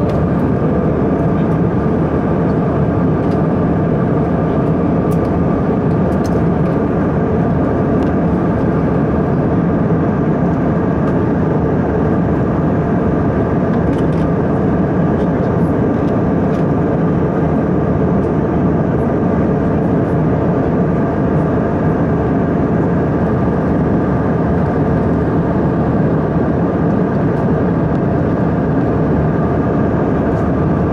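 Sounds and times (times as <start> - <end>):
aircraft cabin engine rush: 0.0 - 30.9.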